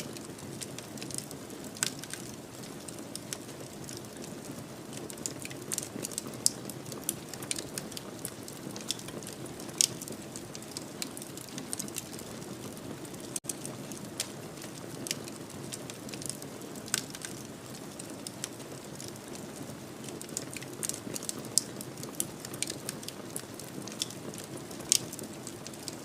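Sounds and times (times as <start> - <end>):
fire crackles and pops: 0.0 - 26.0
low flame rumble: 0.0 - 26.0.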